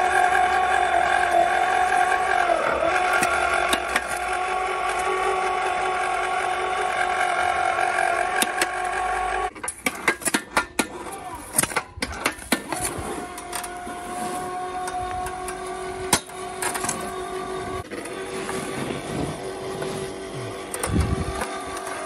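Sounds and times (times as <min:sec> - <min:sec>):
electric motor whining: 0:00.0 - 0:09.6, 0:12.4 - 0:22.0.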